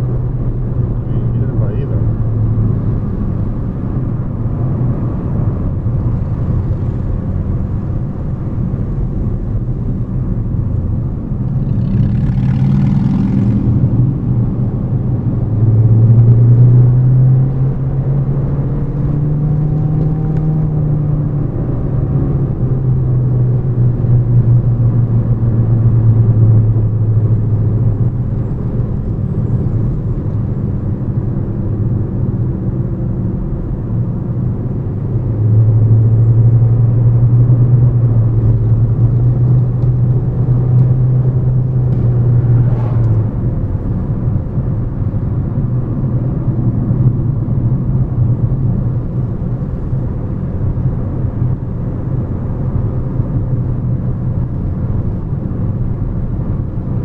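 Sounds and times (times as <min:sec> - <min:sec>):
car engine drone: 0:00.0 - 0:57.0
road noise: 0:00.0 - 0:57.0.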